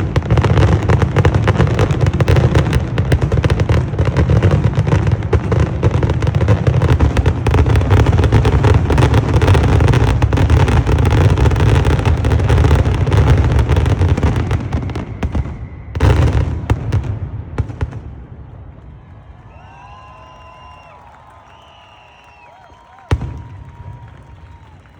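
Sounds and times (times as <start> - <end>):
fireworks bangs: 0.0 - 24.9.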